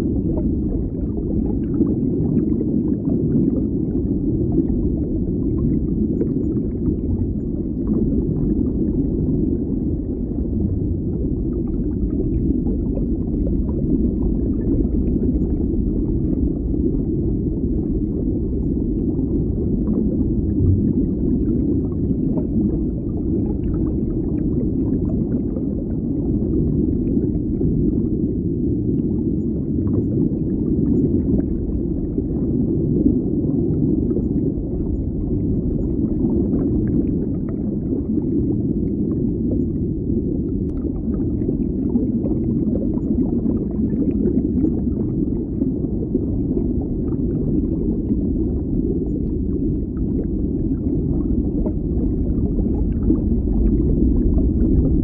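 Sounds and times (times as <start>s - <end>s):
underwater bubbling: 0.0s - 55.0s.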